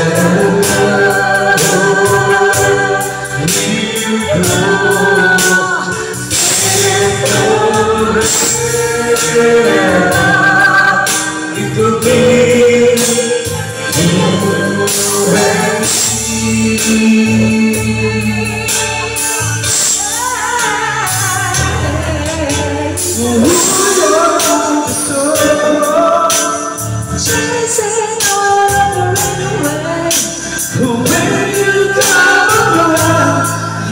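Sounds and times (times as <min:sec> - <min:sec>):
backing music with steady beat: 0:00.0 - 0:33.9
men singing through pa: 0:00.0 - 0:33.9.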